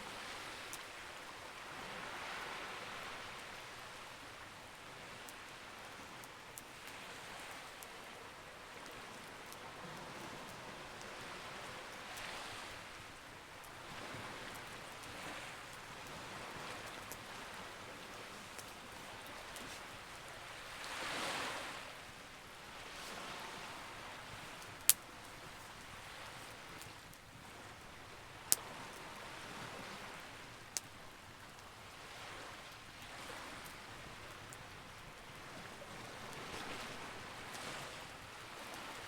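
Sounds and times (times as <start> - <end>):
sea waves: 0.0 - 39.0
campfire crackling: 0.1 - 39.0.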